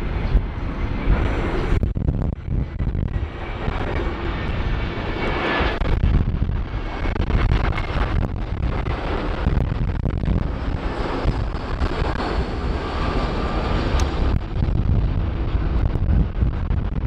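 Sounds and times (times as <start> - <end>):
jet engine noise: 0.0 - 17.0
wind buffeting microphone: 0.0 - 17.0.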